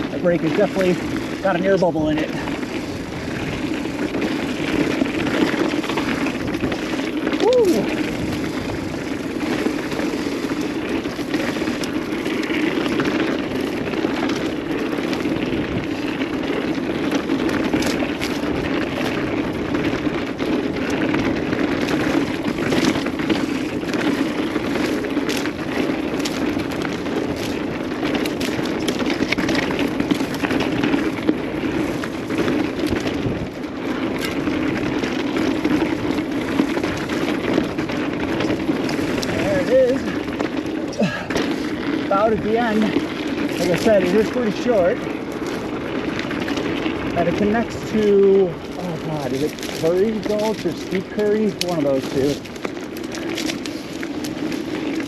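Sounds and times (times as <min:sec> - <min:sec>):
bike clicking and rattling: 0:00.0 - 0:55.0
bike tyres rolling on gravel: 0:00.0 - 0:55.0.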